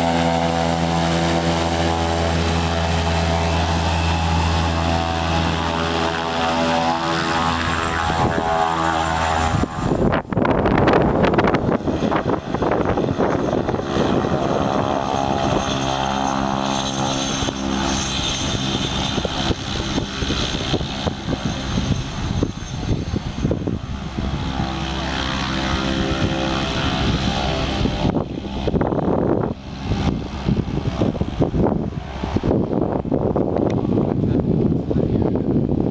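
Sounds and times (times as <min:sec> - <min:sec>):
turbine whine: 0:00.0 - 0:35.9
turboprop propeller drone: 0:00.0 - 0:35.9.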